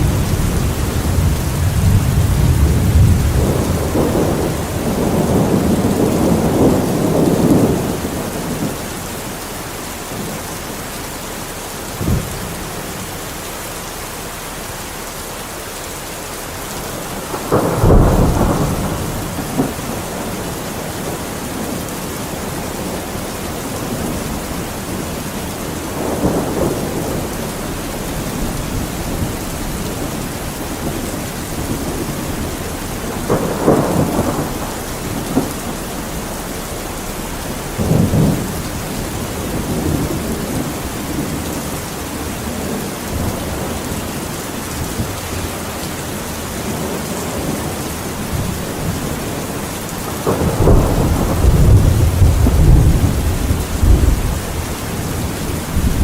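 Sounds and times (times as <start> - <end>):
thunder rumbling: 0.0 - 14.1, 16.4 - 56.0
steady rain: 0.0 - 56.0.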